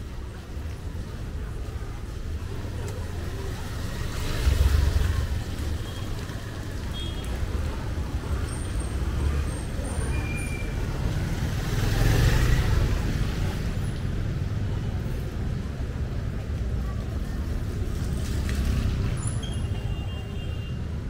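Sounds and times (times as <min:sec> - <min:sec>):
street traffic rumble: 0:00.0 - 0:21.0
vehicles passing: 0:00.0 - 0:21.0.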